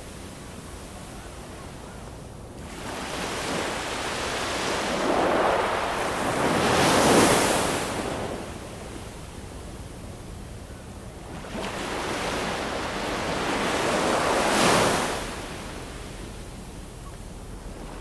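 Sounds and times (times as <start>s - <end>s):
ocean waves breaking: 1.0s - 9.4s, 11.1s - 18.0s.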